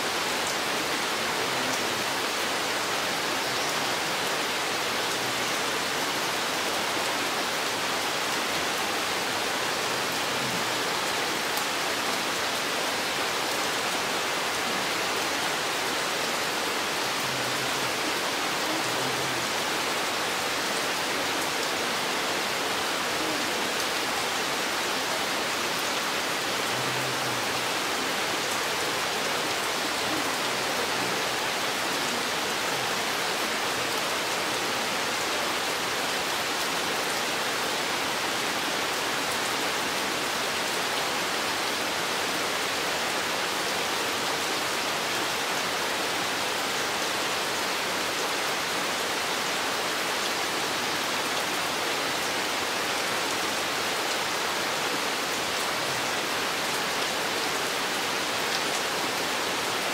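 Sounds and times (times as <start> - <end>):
rain on foliage: 0.0 - 59.9.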